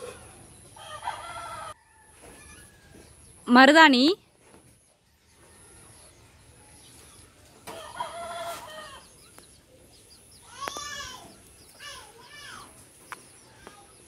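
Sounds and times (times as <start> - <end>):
chickens calling: 0.0 - 3.4, 4.6 - 14.0.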